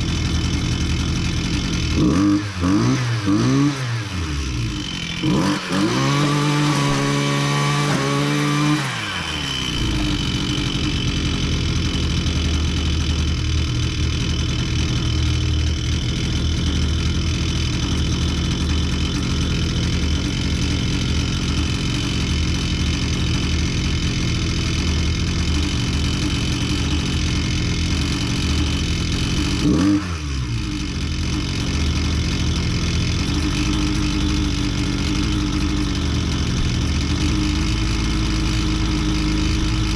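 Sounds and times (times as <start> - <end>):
string trimmer engine revving and idling: 0.0 - 39.9.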